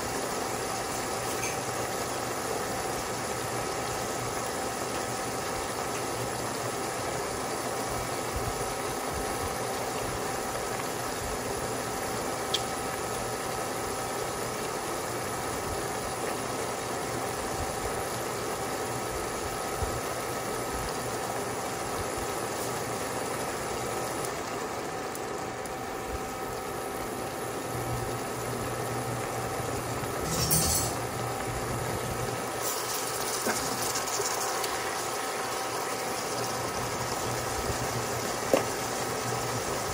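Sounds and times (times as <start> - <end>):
greens simmering in pot: 0.0 - 30.3, 31.0 - 39.9
cooktop humming: 0.0 - 39.9.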